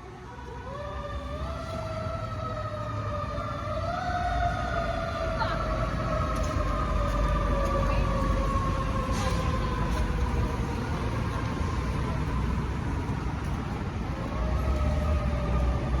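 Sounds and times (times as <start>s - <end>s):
fire truck siren: 0.0s - 16.0s
heavy engine rumble: 1.0s - 16.0s.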